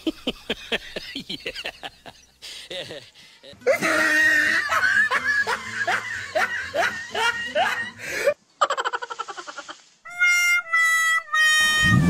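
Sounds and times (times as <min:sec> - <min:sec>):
person laughing: 0:00.0 - 0:09.8.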